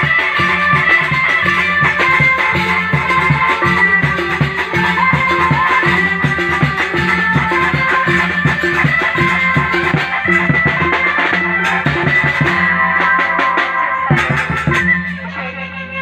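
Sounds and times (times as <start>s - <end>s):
driving drum beat: 0.0s - 15.3s
live band music: 0.0s - 16.0s.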